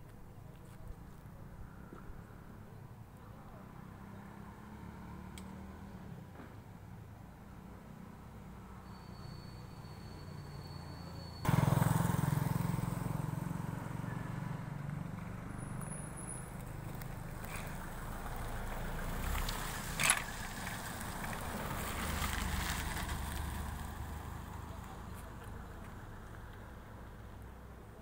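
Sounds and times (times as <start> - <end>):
vehicles passing on street: 0.0 - 28.0.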